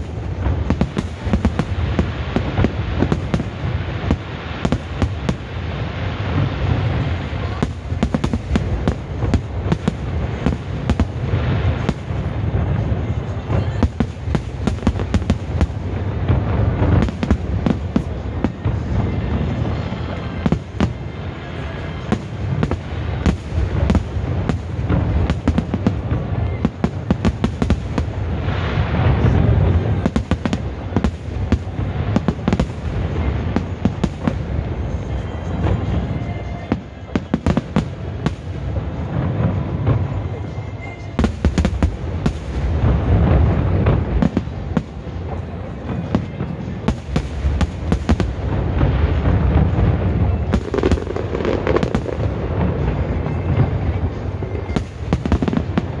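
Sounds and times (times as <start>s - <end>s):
fireworks cracking: 0.0s - 56.0s.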